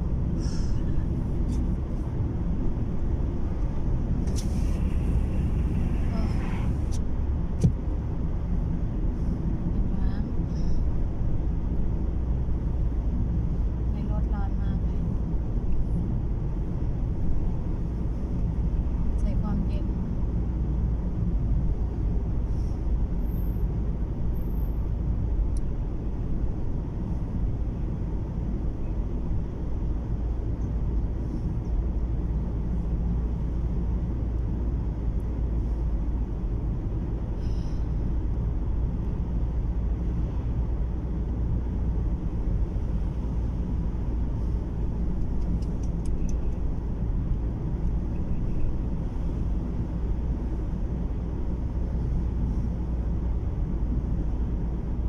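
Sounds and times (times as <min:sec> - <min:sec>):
car interior road and engine noise: 0:00.0 - 0:55.0.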